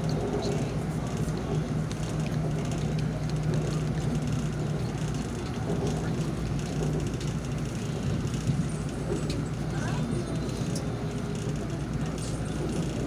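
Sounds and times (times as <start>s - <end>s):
constant low hum: 0.0s - 13.0s
train rumbling on track: 0.0s - 13.0s.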